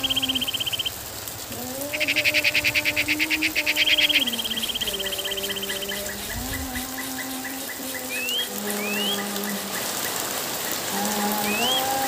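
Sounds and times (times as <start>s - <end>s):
frogs trilling: 0.0s - 12.0s.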